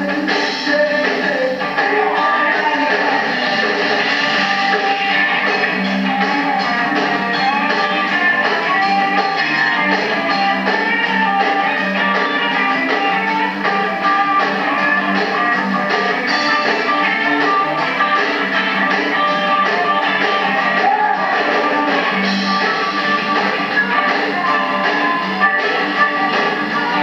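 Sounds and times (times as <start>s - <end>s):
blues-rock band playing: 0.0s - 27.0s
drum kit beat: 0.0s - 27.0s
electric guitar: 0.0s - 27.0s.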